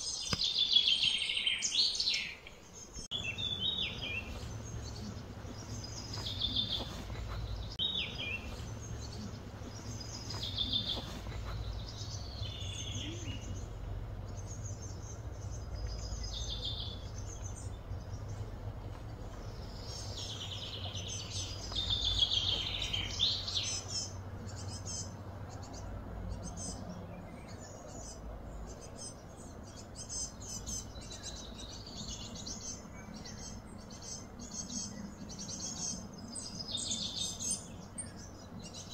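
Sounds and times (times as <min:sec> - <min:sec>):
birds chirping: 0:00.0 - 0:38.9
low background rumble: 0:02.7 - 0:38.9.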